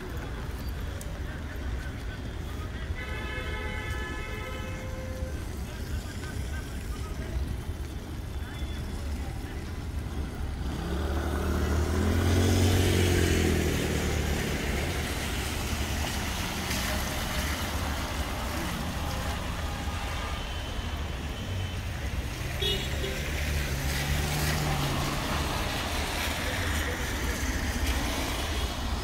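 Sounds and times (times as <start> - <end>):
cars passing on wet street: 0.0 - 29.0.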